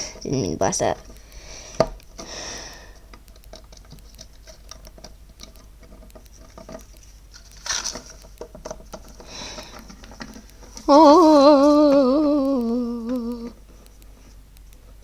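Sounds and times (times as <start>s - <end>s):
plastic toy clicking and rattling: 0.0s - 13.6s.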